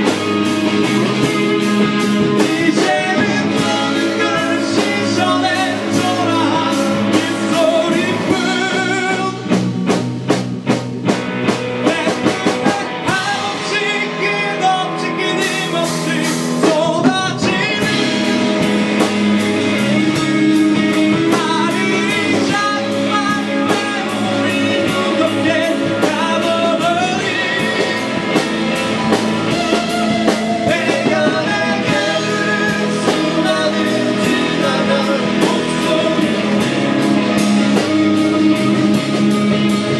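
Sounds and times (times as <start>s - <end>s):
drums: 0.0s - 39.9s
electric guitar: 0.0s - 39.9s
man singing: 2.0s - 9.6s, 11.8s - 18.9s, 19.7s - 37.8s.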